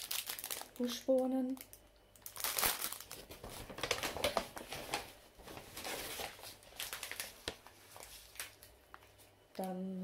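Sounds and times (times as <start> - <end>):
food packaging rustling: 0.0 - 9.3.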